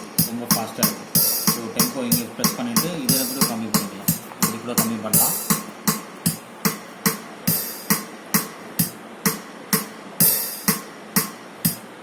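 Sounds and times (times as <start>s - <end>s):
drum-machine waltz rhythm: 0.0s - 12.0s.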